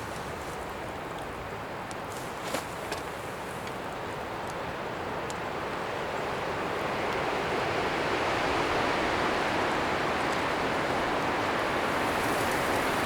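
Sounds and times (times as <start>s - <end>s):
wind rushing through trees: 0.0s - 13.0s.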